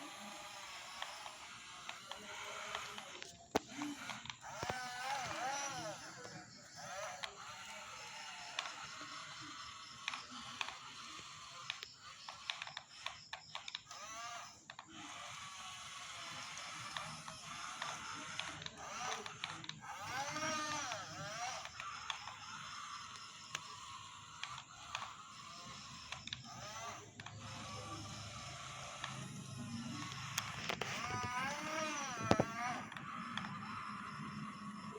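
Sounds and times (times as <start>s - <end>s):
gears clicking and ratcheting: 0.0s - 34.9s
small electric motors whining: 0.0s - 34.9s.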